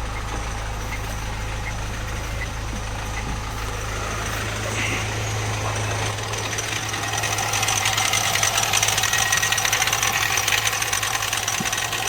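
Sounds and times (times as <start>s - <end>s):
diesel engine idling: 0.0s - 12.0s
engine ticking knock: 0.0s - 12.0s.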